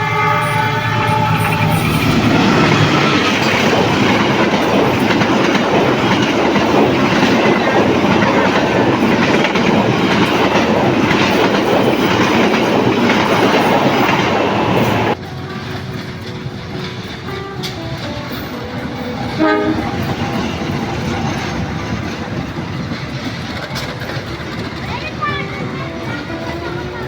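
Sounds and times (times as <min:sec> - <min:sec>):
train wheels clattering over rails: 0:00.0 - 0:27.0.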